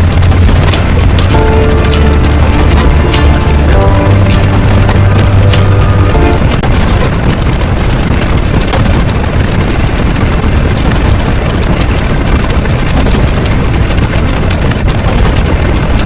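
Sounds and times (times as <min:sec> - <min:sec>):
heavy low rumble: 0:00.0 - 0:15.1.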